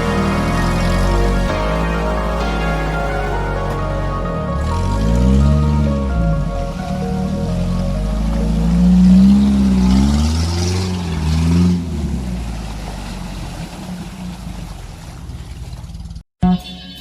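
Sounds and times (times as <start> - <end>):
off-road vehicle engine revving: 0.0 - 16.2.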